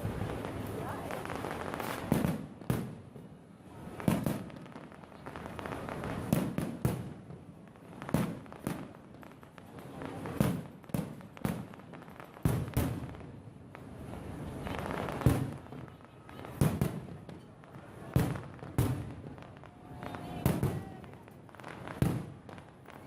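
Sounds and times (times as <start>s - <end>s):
firework bangs with low rumble: 0.0s - 23.0s.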